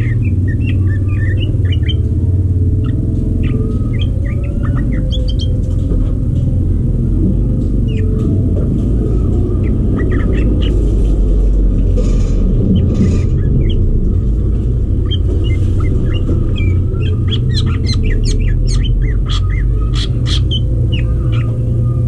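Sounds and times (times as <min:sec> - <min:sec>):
birds chirping and whistling: 0:00.0 - 0:22.0
steady low rumble: 0:00.0 - 0:22.0.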